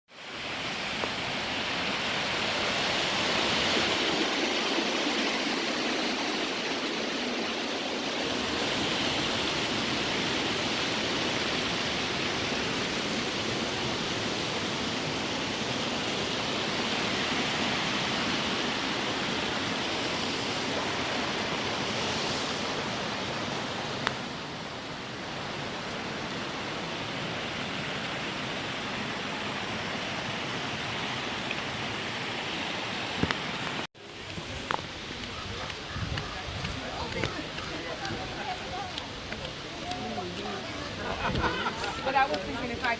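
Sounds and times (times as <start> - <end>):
waterfall rushing: 0.2 - 42.9.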